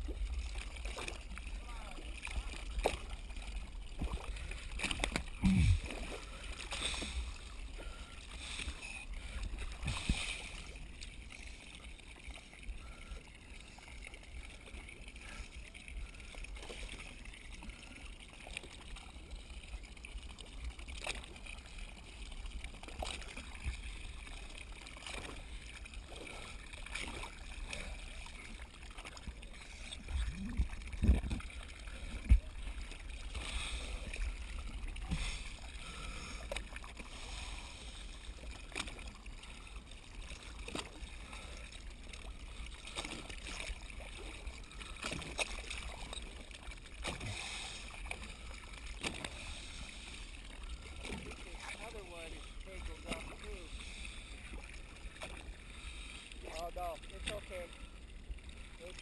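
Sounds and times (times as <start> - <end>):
boat engine rumble: 0.0 - 59.0
water sloshing: 0.0 - 59.0.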